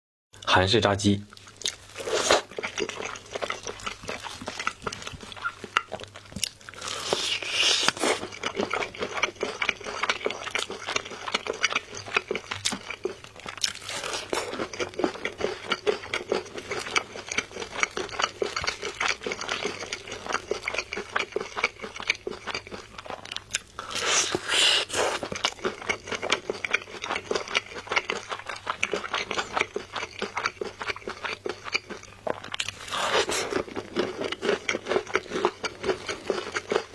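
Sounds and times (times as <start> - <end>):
crunching and chewing fried chicken: 1.3 - 36.9.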